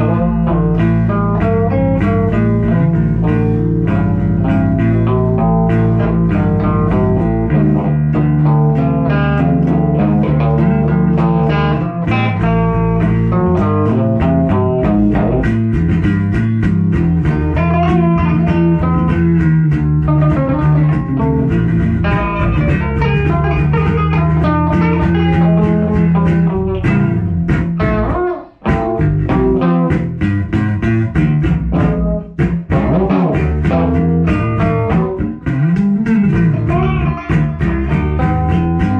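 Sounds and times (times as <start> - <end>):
bluesy guitar and bass music: 0.0 - 38.9.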